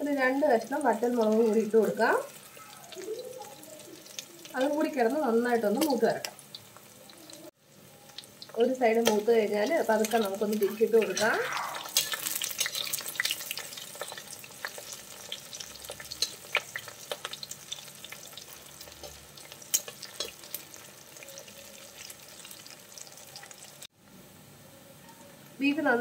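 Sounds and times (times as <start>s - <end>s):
meat sizzling in hot oil: 0.0s - 23.9s.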